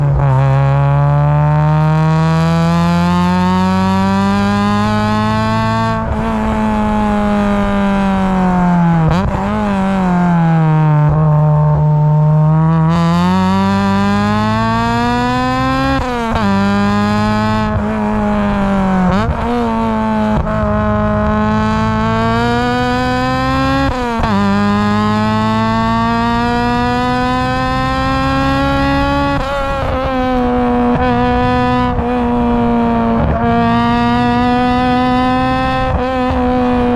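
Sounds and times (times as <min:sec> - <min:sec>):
car engine revving through gears: 0:00.0 - 0:36.9.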